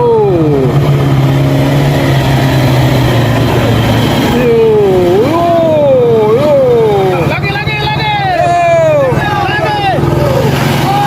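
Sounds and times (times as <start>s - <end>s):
low engine drone: 0.0s - 11.0s
motorbike passing: 0.0s - 11.0s.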